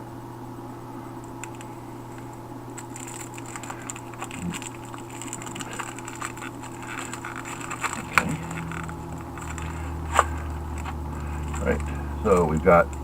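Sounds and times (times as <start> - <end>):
steady low hum: 0.0 - 13.0
packaging crinkling and clicking: 1.3 - 13.0.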